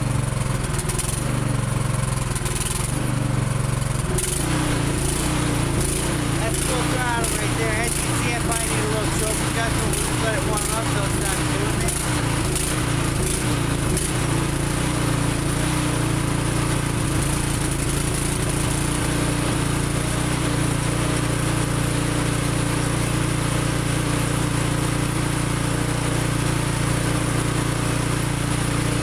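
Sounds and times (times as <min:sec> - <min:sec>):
snow thrower engine running: 0:00.0 - 0:29.0.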